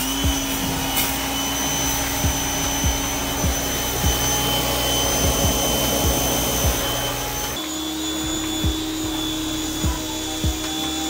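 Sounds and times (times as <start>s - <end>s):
pressure washer motor whining: 0.0s - 11.0s.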